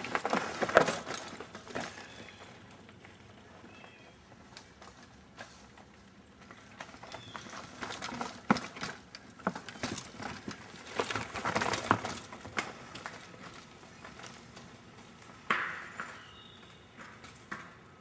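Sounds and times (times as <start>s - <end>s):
mountain bike rolling over rough trail: 0.0s - 18.0s
wheels and frame knocking and rattling: 0.0s - 18.0s.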